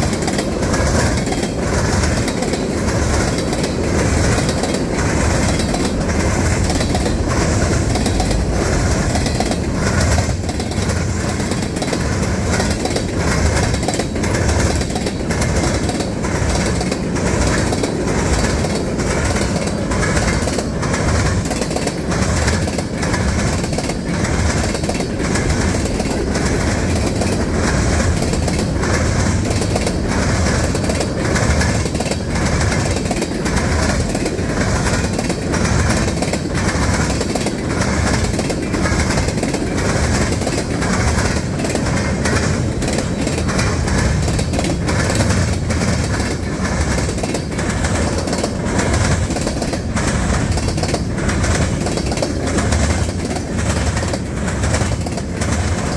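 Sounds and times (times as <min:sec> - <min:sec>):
freight train rumbling past: 0:00.0 - 0:55.9
wheels clacking over rail joints: 0:00.0 - 0:55.9.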